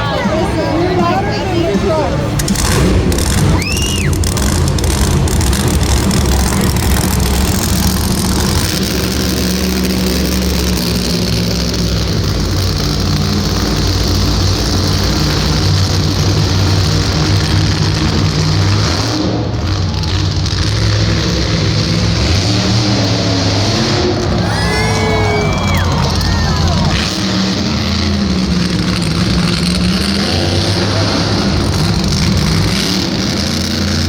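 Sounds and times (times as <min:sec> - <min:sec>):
truck engine running loudly: 0:00.0 - 0:34.0.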